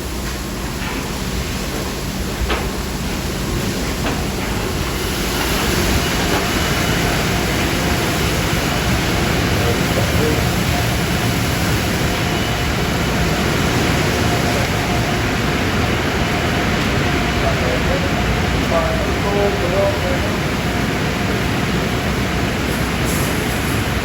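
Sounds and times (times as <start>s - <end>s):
car wash rushing noise: 0.0s - 24.0s.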